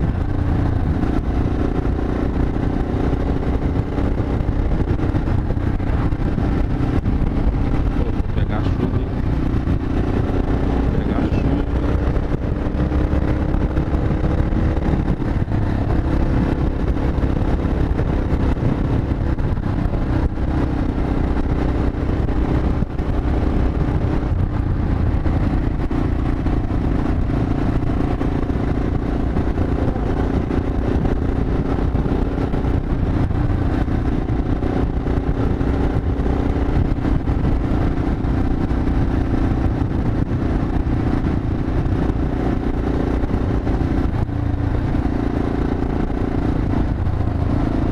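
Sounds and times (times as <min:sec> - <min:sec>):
motorcycle engine cruising: 0:00.0 - 0:47.9
wind rumble on microphone: 0:00.0 - 0:47.9.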